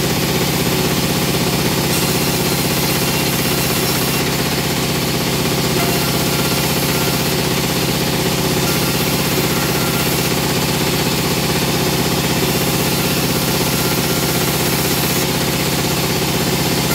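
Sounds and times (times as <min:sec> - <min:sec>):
veneer peeling machine drone: 0:00.0 - 0:16.9.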